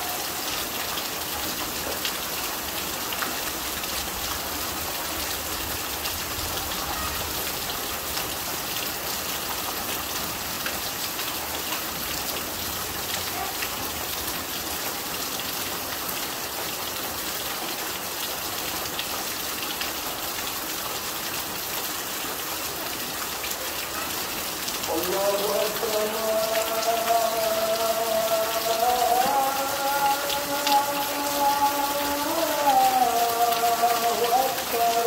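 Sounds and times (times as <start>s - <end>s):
heavy rain pouring: 0.0s - 35.0s
rain on a tin roof: 0.0s - 35.0s
rain splashing into water: 0.0s - 35.0s.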